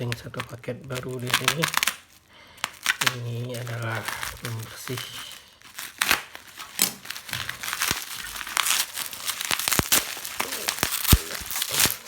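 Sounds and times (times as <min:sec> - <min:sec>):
plastic packaging crinkling: 0:00.0 - 0:12.0
sharp clicks and crackles: 0:00.0 - 0:12.0.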